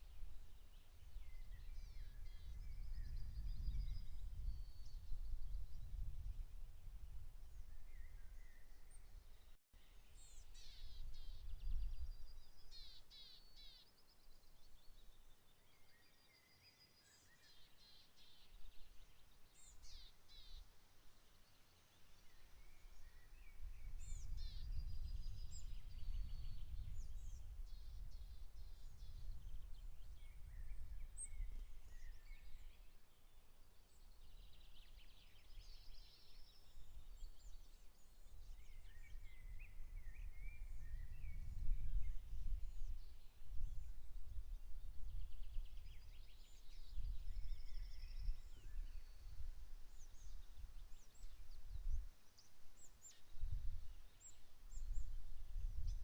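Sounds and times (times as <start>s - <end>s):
songbirds singing and calling: 0.0s - 6.6s, 7.5s - 56.0s.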